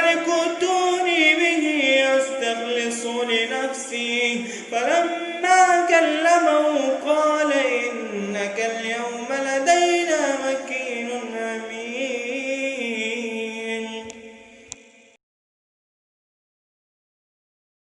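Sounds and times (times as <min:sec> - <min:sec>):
man chanting recitation: 0:00.0 - 0:15.2.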